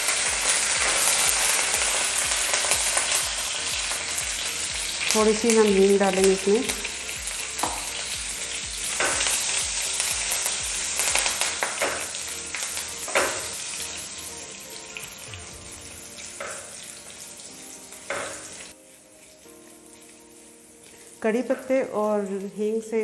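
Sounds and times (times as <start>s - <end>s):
spices sizzling in hot oil: 0.0s - 23.0s.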